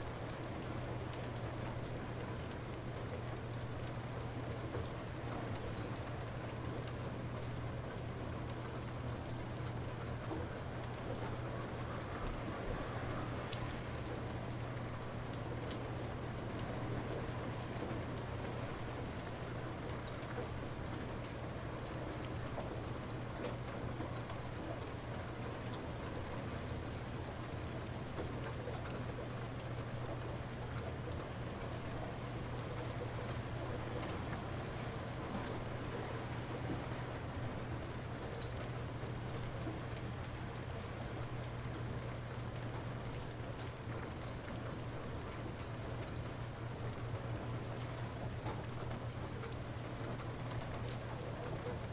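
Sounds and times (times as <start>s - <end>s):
light rain falling: 0.0s - 51.9s
raindrops ticking on surface: 0.0s - 51.9s.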